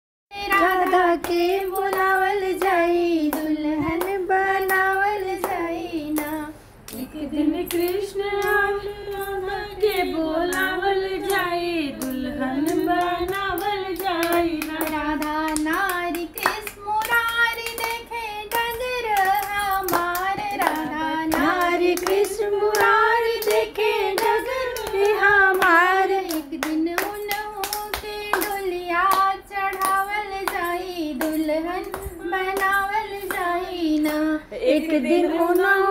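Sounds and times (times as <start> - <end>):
woman singing unaccompanied: 0.3 - 35.9.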